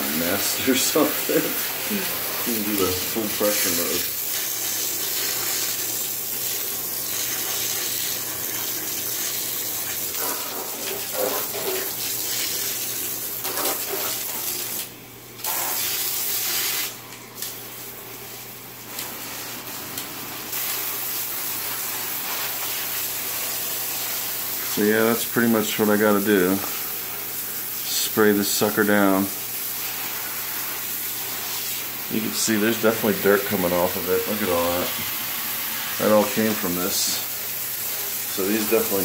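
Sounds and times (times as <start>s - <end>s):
hose water spray hissing: 0.0s - 39.0s.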